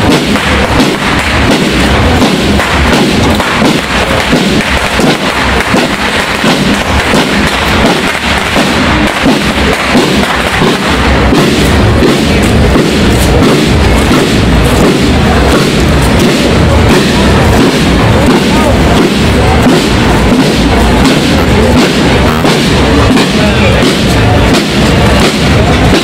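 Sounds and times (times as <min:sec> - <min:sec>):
marching band drums: 0:00.0 - 0:26.0.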